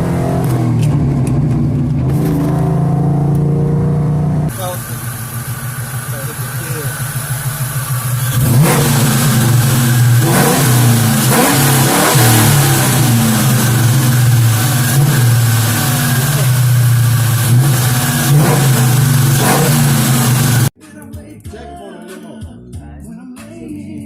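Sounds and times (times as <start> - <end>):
engine throttle blips: 0.0 - 20.7
loud engine idling: 0.6 - 20.7.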